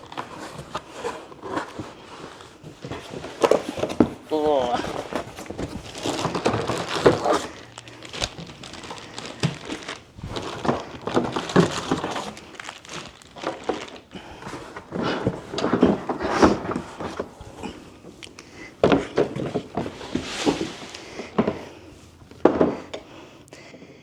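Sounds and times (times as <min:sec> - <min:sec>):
packaging crinkling: 0:00.0 - 0:23.4.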